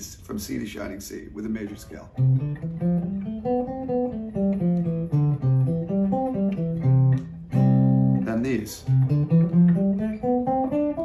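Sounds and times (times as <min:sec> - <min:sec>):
electric guitar playing a scale: 0:02.0 - 0:11.0.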